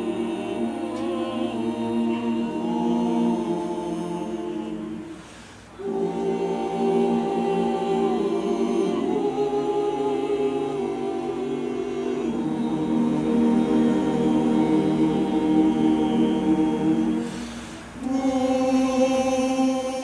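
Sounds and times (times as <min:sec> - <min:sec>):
choir singing held chords: 0:00.0 - 0:20.0.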